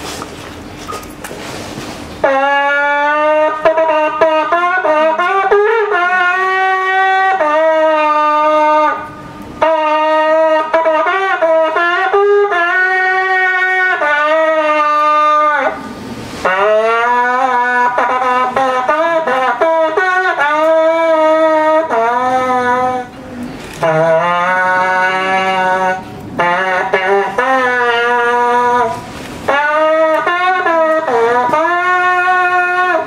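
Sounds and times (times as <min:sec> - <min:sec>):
horn playing held notes: 0:02.2 - 0:33.0.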